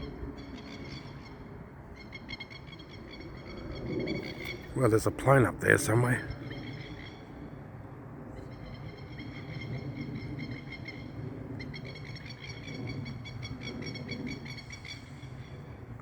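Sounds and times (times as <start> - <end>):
distant aeroplane drone: 0.0 - 16.0.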